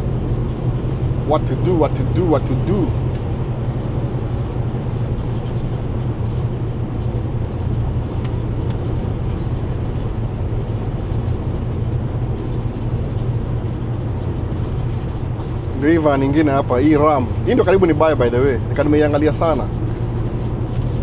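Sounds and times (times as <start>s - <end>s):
road and engine rumble in cabin: 0.0s - 21.0s.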